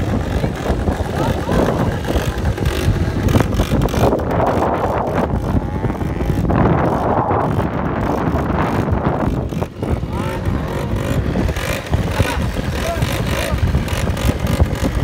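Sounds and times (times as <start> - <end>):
quad bike engines revving: 0.0 - 15.0
wind buffeting microphone: 0.0 - 15.0.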